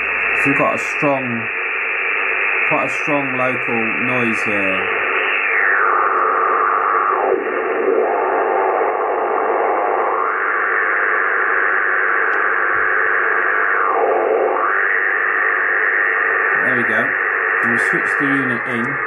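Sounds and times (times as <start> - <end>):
radio interference hiss: 0.0 - 19.0.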